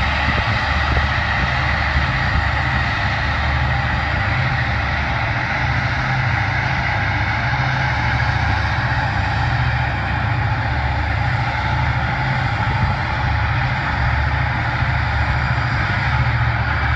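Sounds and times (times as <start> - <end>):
diesel engines droning: 0.0 - 16.9.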